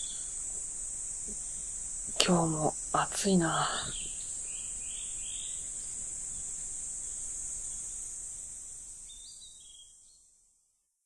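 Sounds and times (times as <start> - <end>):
chorus of insects: 0.0 - 10.4.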